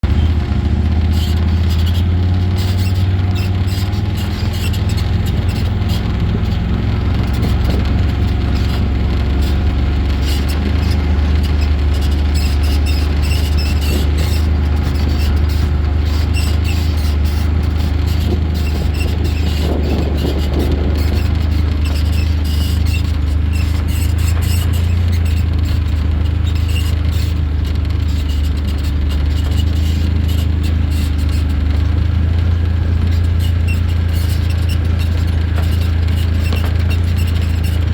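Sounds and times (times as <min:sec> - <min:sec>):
off-road vehicle engine droning: 0:00.0 - 0:37.9
short high squeaks: 0:00.0 - 0:37.9.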